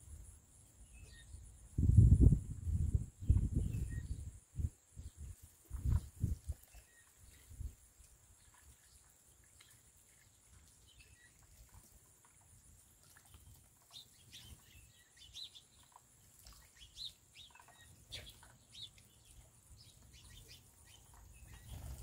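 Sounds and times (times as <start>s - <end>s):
faint sparrow chirps: 0.5s - 7.8s, 8.4s - 22.0s.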